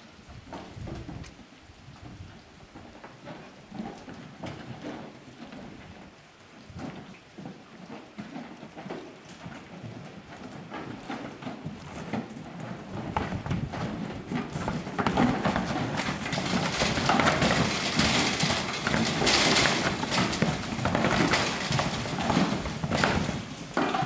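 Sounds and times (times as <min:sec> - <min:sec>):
cattle hooves on trailer ramp: 0:01.9 - 0:24.0.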